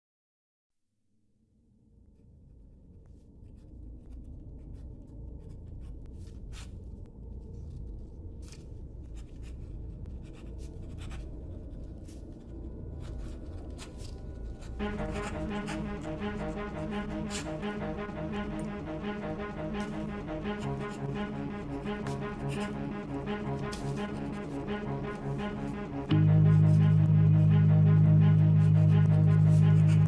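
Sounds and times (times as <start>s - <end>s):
low rumbling drone: 1.6s - 30.0s.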